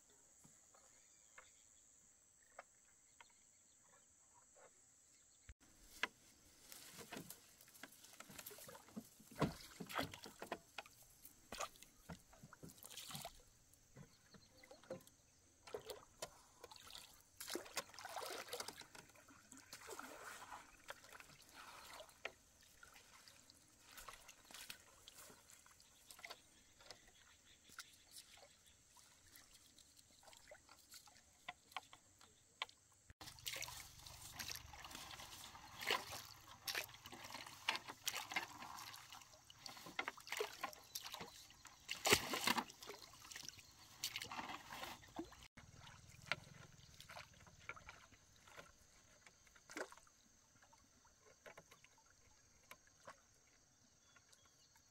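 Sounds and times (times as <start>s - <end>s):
water splashing and trickling: 5.6s - 54.9s.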